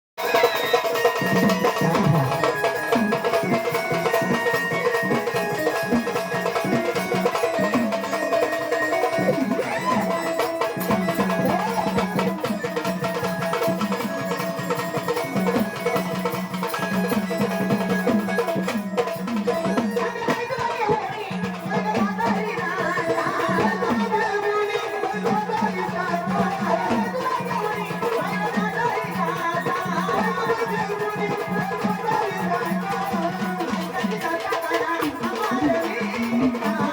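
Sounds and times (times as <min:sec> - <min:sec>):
hand drum beat: 0:00.2 - 0:36.9.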